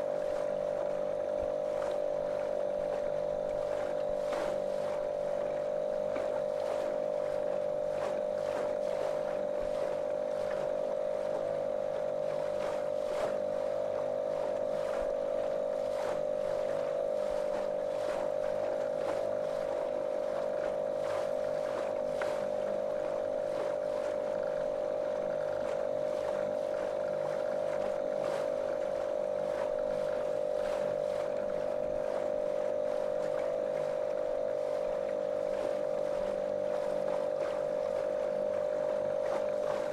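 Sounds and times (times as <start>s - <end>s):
faint ticks and splashes: 0.0s - 39.9s
motorboat motor droning: 0.0s - 39.9s.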